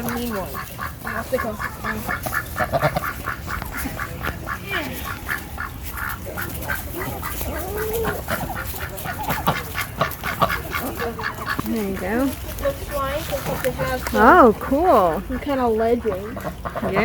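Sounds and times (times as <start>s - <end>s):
ducks quacking: 0.0s - 17.0s
low bending duck calls: 0.0s - 17.0s.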